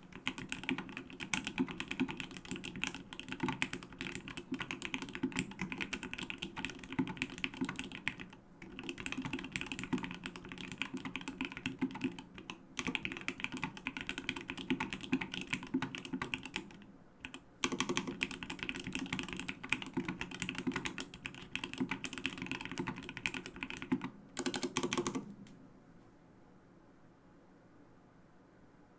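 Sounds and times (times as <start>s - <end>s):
typing on mechanical keyboard: 0.0s - 25.3s.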